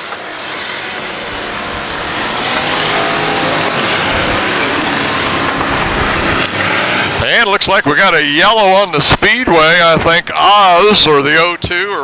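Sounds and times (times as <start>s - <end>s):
race car engines passing: 0.0s - 11.6s.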